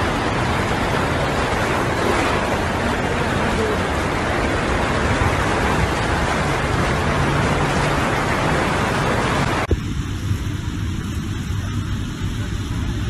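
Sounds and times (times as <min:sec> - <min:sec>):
floodwater rushing against car: 0:00.0 - 0:13.0
low rumble: 0:00.0 - 0:13.0.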